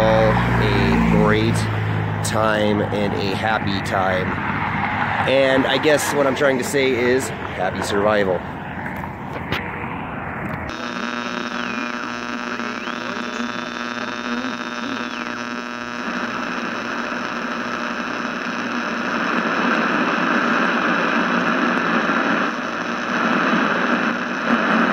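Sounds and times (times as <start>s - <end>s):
buzzing hum: 0.0s - 24.9s
static hiss: 0.0s - 24.9s.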